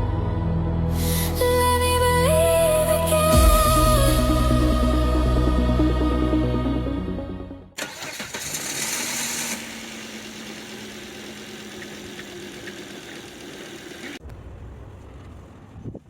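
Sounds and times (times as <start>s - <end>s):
car engine starting and idling: 1.0s - 15.7s.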